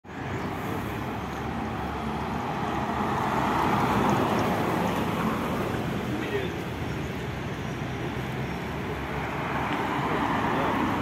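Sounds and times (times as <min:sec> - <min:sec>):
street traffic: 0:00.0 - 0:11.0
bus driving past: 0:00.1 - 0:11.0.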